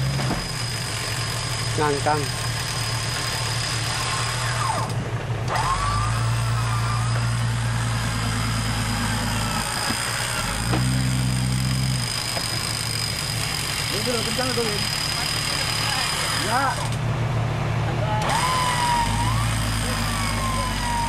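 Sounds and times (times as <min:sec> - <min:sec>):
electric winch pulling: 0:00.0 - 0:17.0, 0:18.1 - 0:21.0.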